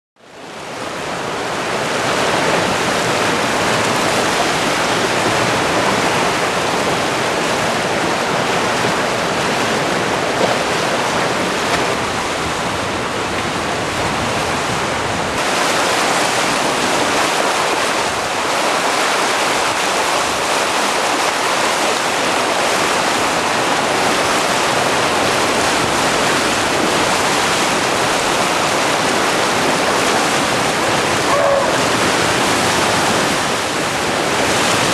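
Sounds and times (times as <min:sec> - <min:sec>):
river rapids roaring: 0:00.2 - 0:34.9.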